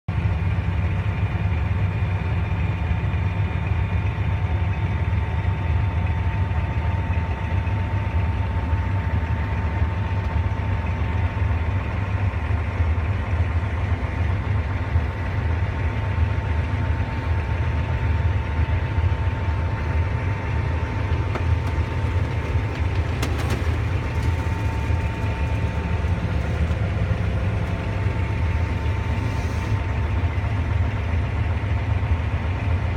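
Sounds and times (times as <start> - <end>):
tractor engine drone: 0.1 - 32.9.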